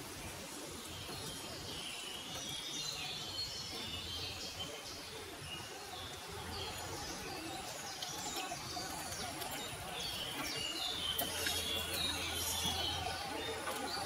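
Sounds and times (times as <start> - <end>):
songbirds chirping: 0.0 - 14.0
steady background hiss: 0.0 - 14.0.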